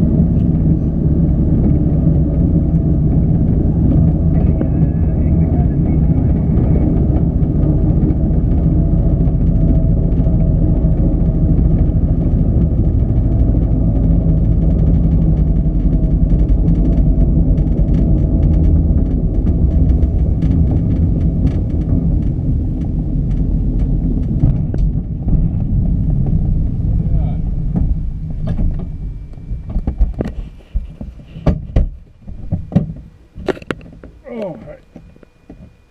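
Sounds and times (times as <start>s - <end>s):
wheel rumbling on asphalt: 0.0s - 35.9s.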